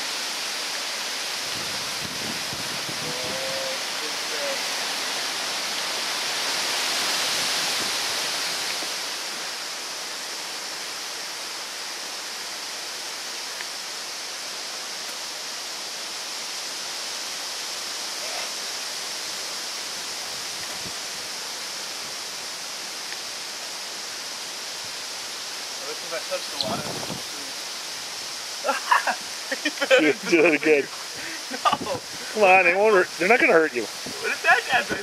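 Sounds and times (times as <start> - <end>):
steady outdoor rushing hiss: 0.0 - 35.0.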